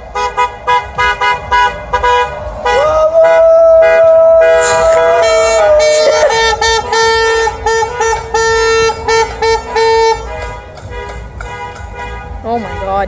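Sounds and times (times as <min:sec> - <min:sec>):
car horns honking: 0:00.0 - 0:13.0
traffic noise: 0:00.0 - 0:13.0.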